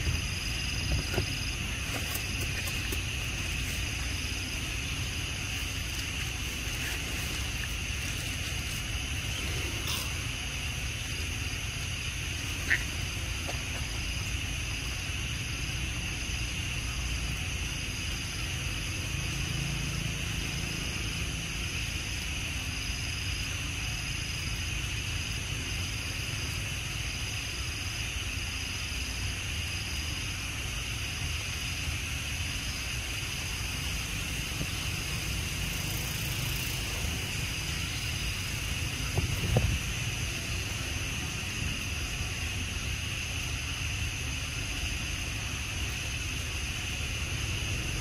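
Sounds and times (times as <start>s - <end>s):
constant low rumble: 0.0s - 48.0s
insects buzzing: 0.0s - 48.0s.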